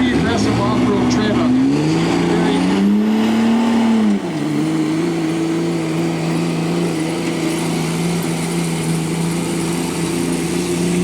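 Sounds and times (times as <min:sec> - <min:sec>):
diesel engine lugging under load: 0:00.0 - 0:11.0.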